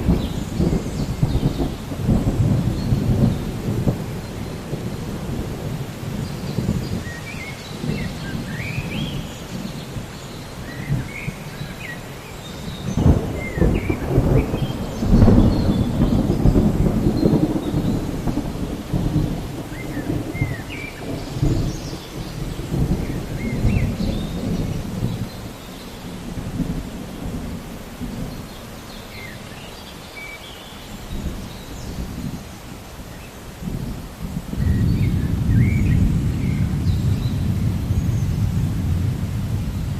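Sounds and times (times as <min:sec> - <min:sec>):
rolling thunder rumble: 0:00.0 - 0:29.6, 0:31.0 - 0:39.9
steady rain: 0:00.0 - 0:39.9.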